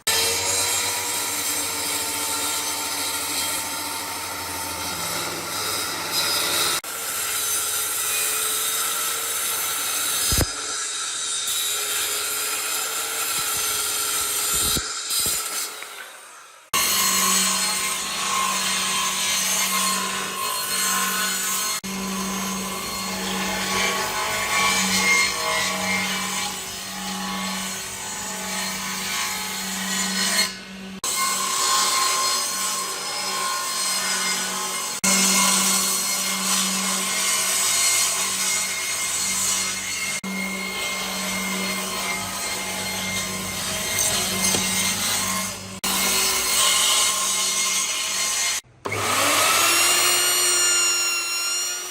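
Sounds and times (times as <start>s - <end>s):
power tool cutting wood: 0.0s - 51.9s.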